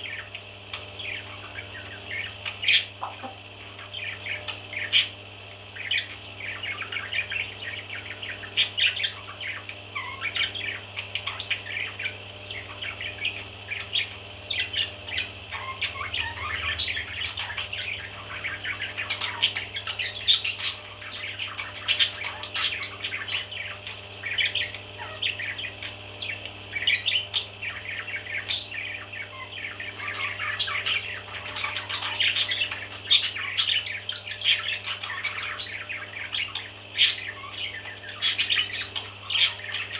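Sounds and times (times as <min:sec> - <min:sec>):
parrot chicks chirping and squawking: 0:00.0 - 0:39.9
steady low hum: 0:00.0 - 0:39.9.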